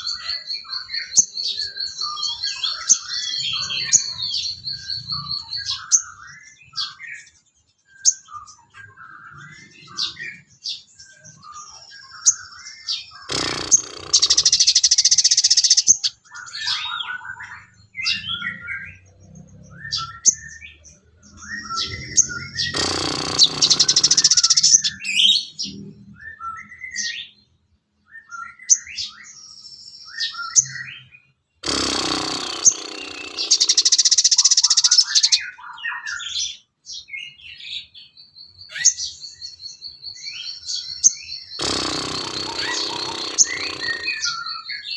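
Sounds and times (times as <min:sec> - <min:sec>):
loud rapid bird trills: 0:00.0 - 0:27.2, 0:30.1 - 0:36.6, 0:37.8 - 0:44.9
songbirds chirping and whistling: 0:00.0 - 0:44.9.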